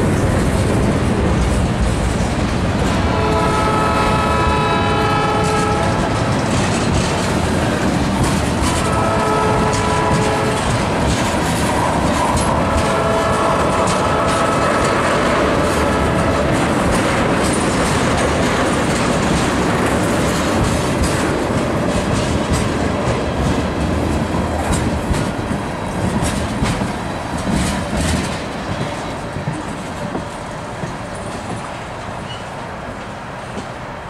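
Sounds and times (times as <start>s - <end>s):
wheels clicking over rail joints: 0.0s - 33.9s
freight train rolling past: 0.0s - 34.0s.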